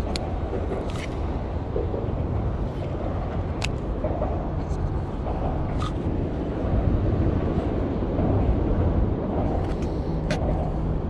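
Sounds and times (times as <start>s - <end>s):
traffic rumble on a bridge: 0.0s - 11.0s.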